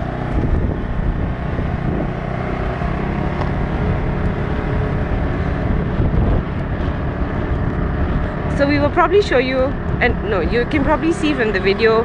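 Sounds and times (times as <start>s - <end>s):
scooter engine running: 0.0s - 12.0s
wind rumble on microphone: 0.0s - 12.0s.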